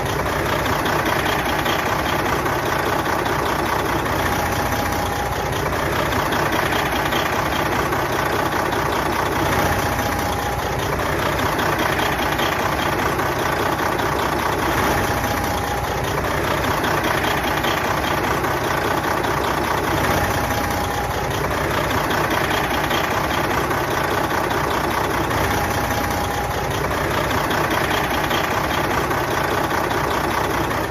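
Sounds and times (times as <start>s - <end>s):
truck diesel engine idling: 0.0s - 30.9s.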